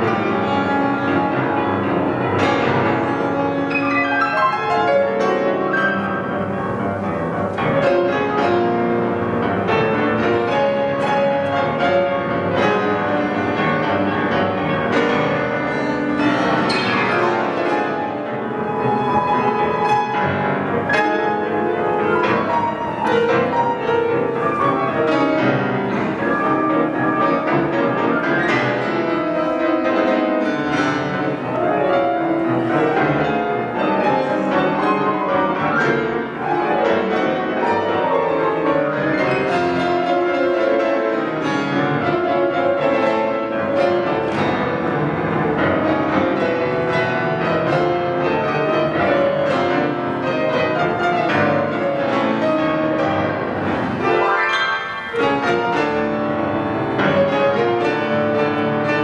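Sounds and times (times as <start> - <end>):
two pianos playing classical music: 0.0 - 59.0.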